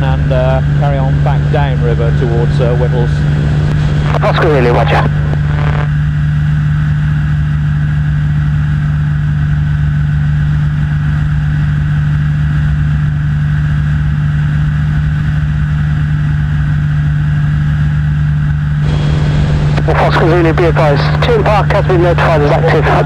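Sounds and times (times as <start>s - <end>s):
light aircraft engine drone: 0.0s - 23.0s.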